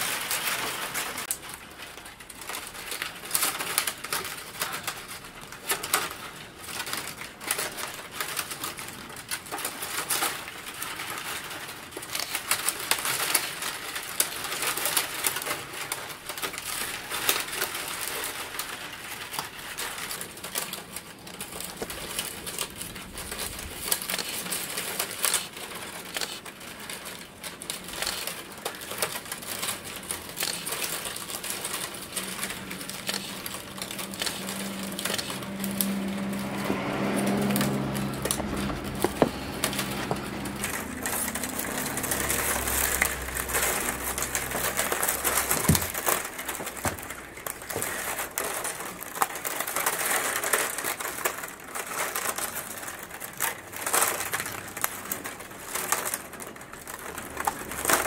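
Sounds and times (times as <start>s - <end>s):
bamboo strips crackling and clicking: 0.0s - 58.0s.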